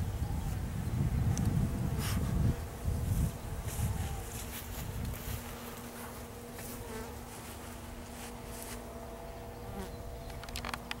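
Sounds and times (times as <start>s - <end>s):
bees buzzing: 0.1s - 11.0s.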